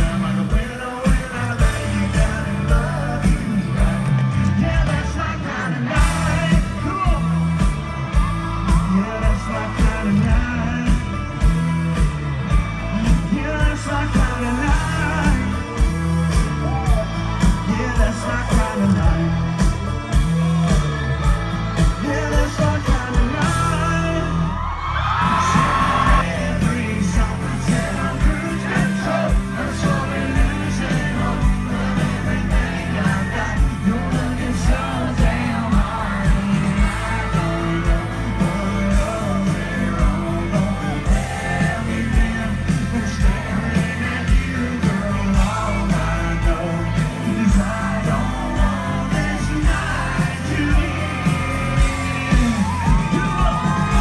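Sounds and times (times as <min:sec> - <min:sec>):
man singing: 0:00.0 - 0:11.8, 0:12.5 - 0:21.0, 0:21.8 - 0:54.0
live country band: 0:00.0 - 0:54.0.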